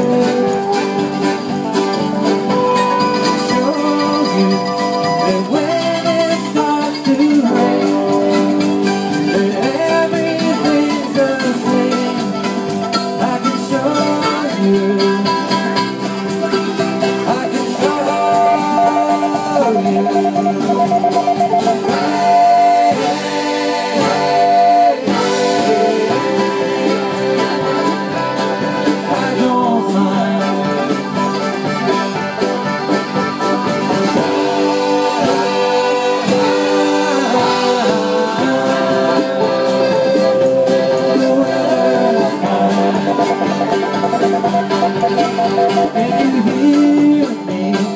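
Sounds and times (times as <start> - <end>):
acoustic guitar: 0.0 - 47.9
drums: 0.0 - 47.9
voices singing along: 2.4 - 15.6, 17.0 - 31.5, 33.9 - 47.9.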